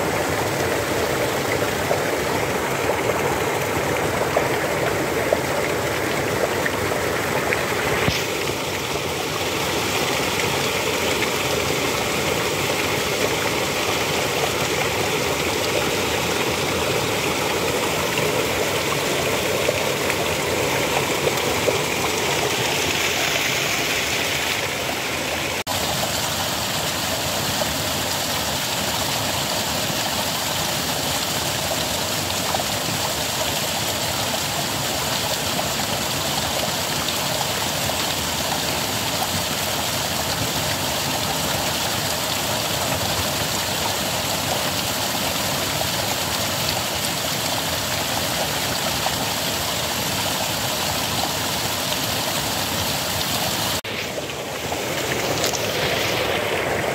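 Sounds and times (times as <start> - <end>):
water gushing and splashing onto rocks: 0.0 - 56.9.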